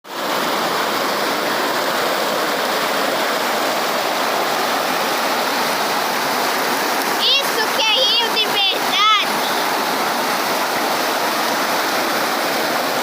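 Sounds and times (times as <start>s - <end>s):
stream water rushing: 0.1s - 13.0s.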